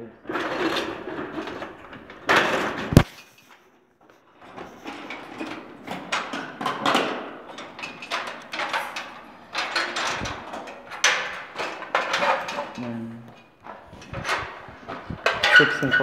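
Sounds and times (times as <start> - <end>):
scraping and rustling knocks: 0.2 - 16.0.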